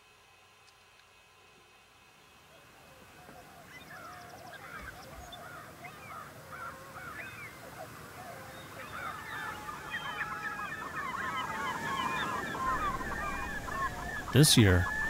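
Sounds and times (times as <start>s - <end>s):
eagles chattering calls: 2.9s - 15.0s.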